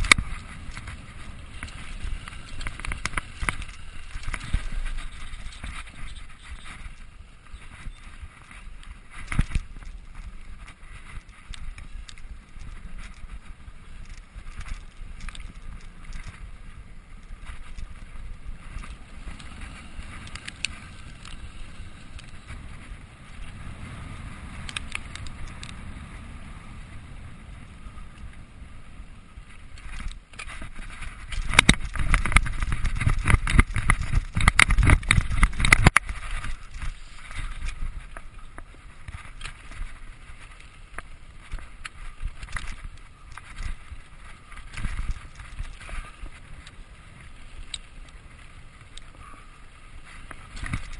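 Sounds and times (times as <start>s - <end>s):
bike rattling and clicking: 0.0s - 50.9s
bike tyres on dirt: 0.0s - 50.9s.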